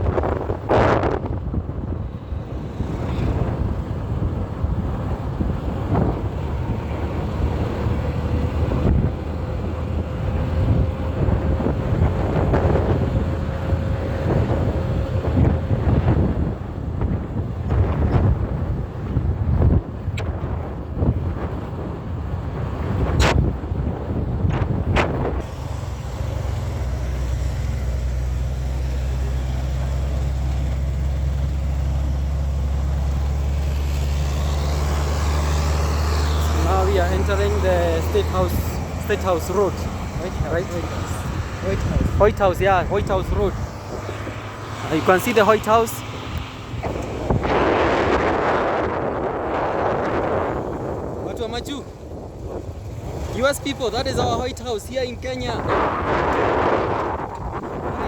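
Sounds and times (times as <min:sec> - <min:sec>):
motorbike engine hum: 0:00.0 - 0:58.0
wind buffeting microphone: 0:00.0 - 0:58.0.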